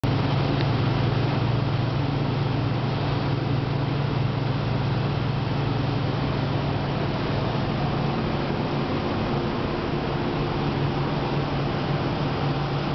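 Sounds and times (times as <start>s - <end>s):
boat engines droning: 0.0s - 12.9s
churning wake water: 0.0s - 12.9s.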